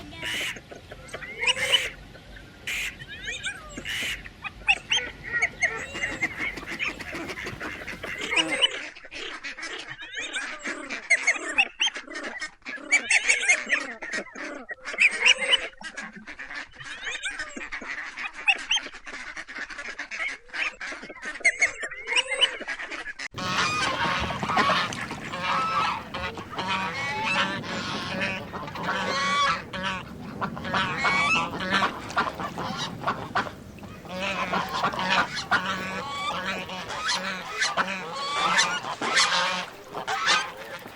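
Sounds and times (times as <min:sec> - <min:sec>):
flock of waterfowl calling: 0:00.0 - 0:40.9.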